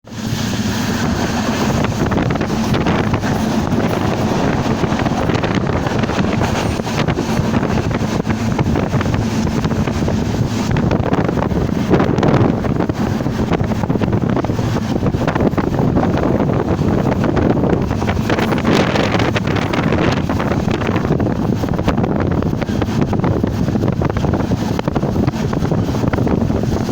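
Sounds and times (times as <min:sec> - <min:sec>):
train rushing at speed: 0:00.0 - 0:26.9
wind buffeting microphone: 0:00.0 - 0:26.9.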